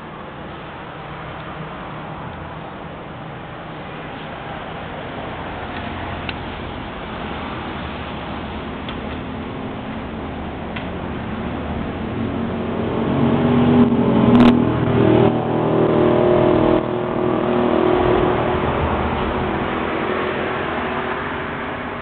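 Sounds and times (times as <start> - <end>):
vehicle engine passing by: 3.8 - 22.0.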